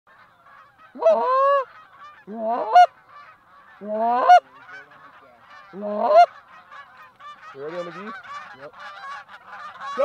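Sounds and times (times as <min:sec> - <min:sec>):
geese honking loudly: 0:00.1 - 0:10.0.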